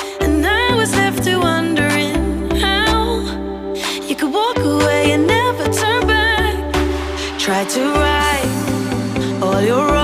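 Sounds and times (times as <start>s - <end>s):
pop song with sung melody: 0.0s - 10.0s.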